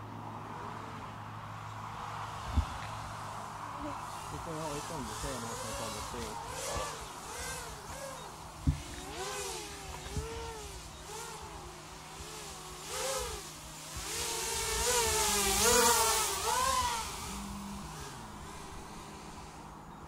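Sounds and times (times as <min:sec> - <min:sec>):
drone propellers whining: 0:00.4 - 0:20.0.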